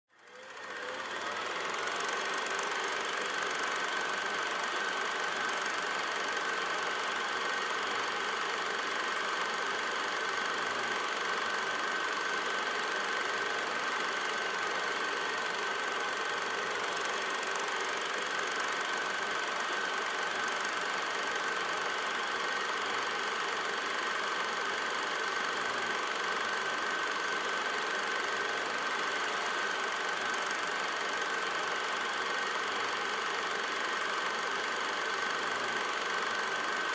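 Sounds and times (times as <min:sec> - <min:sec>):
film projector whirring and clatter: 0:00.1 - 0:36.9.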